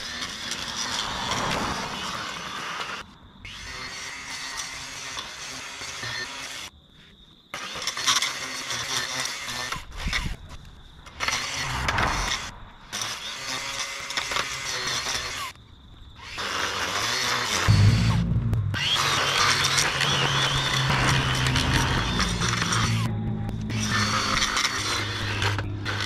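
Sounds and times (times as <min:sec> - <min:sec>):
brush cutter cutting grass: 0:00.0 - 0:06.7, 0:07.6 - 0:10.4, 0:11.1 - 0:15.6, 0:16.2 - 0:18.2, 0:18.8 - 0:26.0.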